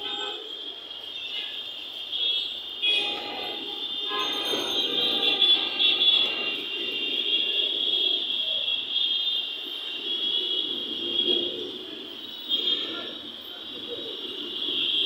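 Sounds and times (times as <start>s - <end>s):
traffic din: 0.0s - 15.0s
vehicle horns: 0.0s - 15.0s.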